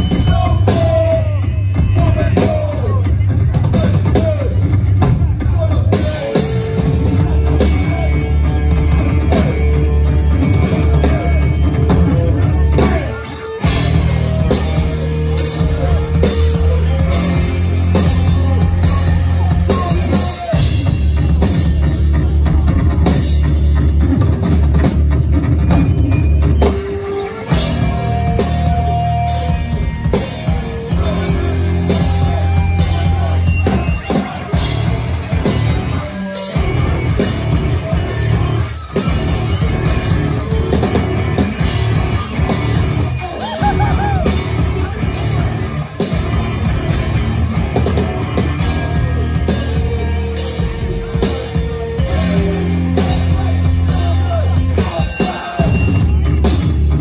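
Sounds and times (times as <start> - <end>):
pounding drum kit: 0.0 - 57.0
punk band playing loud: 0.0 - 57.0.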